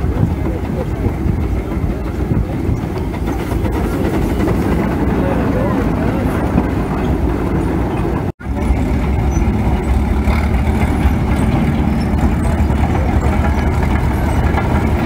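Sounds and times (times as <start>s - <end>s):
crawler loader engine rumbling: 0.0s - 15.0s
steam traction engine running: 0.0s - 15.0s.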